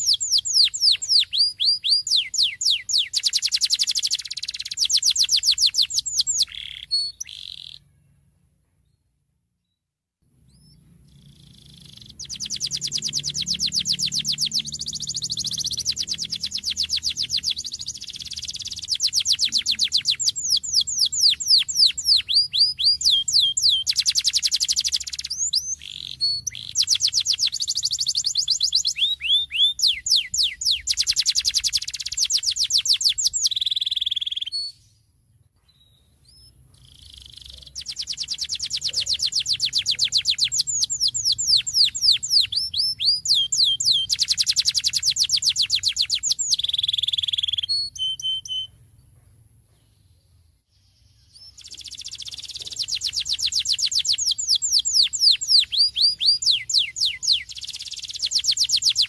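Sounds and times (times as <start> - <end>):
canary singing trills: 0.0 - 9.0, 10.3 - 35.0, 35.7 - 48.9, 50.8 - 59.0.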